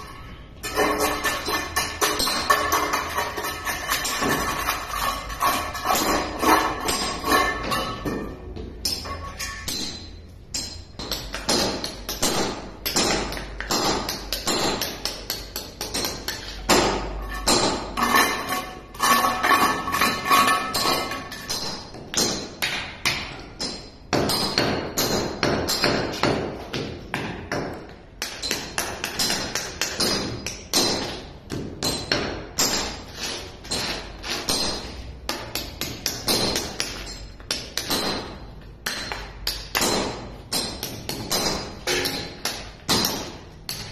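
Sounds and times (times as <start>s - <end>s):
hammer striking steel chisel: 0.0s - 43.9s.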